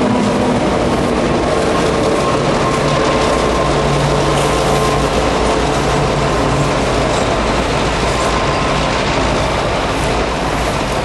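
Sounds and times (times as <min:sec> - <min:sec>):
locomotive engines droning: 0:00.0 - 0:11.0.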